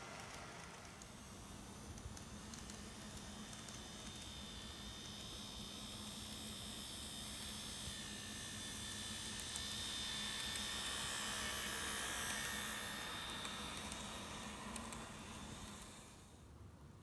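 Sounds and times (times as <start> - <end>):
model train motor whine: 0.0 - 16.5.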